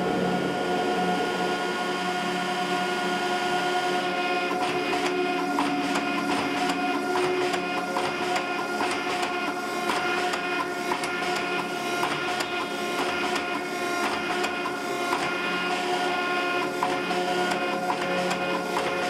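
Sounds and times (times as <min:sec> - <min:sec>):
hydraulic pump motor humming: 0:00.0 - 0:19.0.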